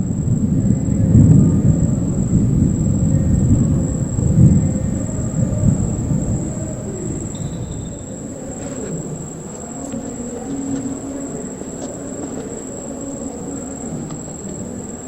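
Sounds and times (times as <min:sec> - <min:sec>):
insects trilling: 0:00.0 - 0:15.0
thunder rumbling: 0:00.0 - 0:15.0.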